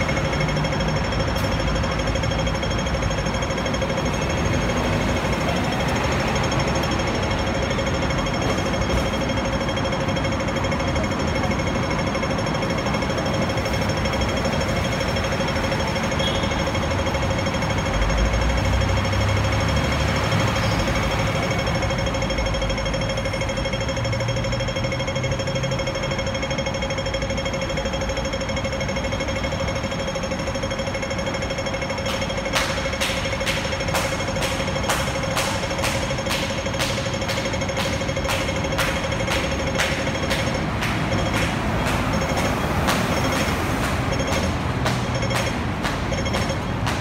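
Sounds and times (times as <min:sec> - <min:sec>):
crossing signal ticking rapidly: 0:00.0 - 0:47.0
traffic rumbling: 0:00.0 - 0:47.0.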